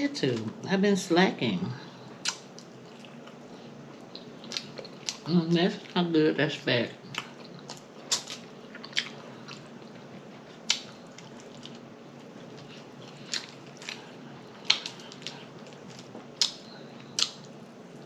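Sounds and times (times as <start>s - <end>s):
person chewing food: 2.1s - 6.0s, 7.0s - 18.0s.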